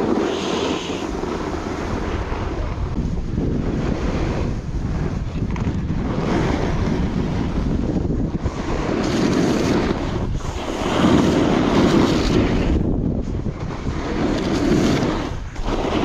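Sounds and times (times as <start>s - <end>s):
snowboard carving snow: 0.0s - 16.0s
wind over camera microphone: 0.0s - 16.0s.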